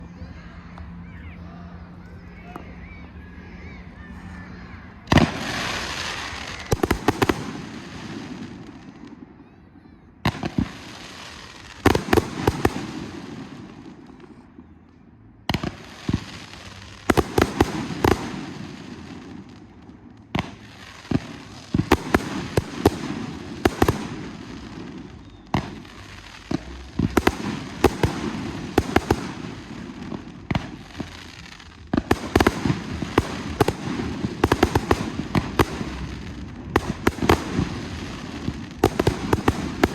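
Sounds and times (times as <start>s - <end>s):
fireworks crackling: 0.0s - 39.9s
fireworks bangs: 0.1s - 39.9s.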